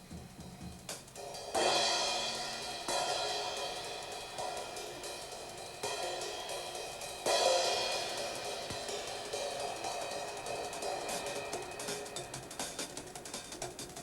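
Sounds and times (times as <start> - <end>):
cymbal crashes: 1.2 - 13.3.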